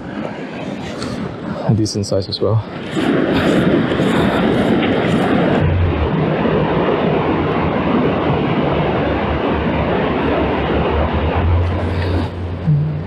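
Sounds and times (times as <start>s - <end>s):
uneven low rumble: 0.0s - 13.0s
wind buffeting microphone: 0.0s - 13.0s.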